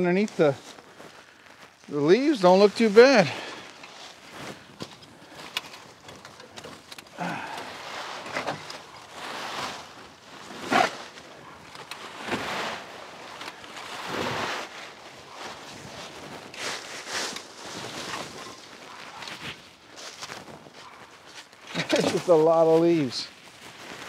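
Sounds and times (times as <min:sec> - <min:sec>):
dry leaves rustling and crunching: 0:00.0 - 0:24.0.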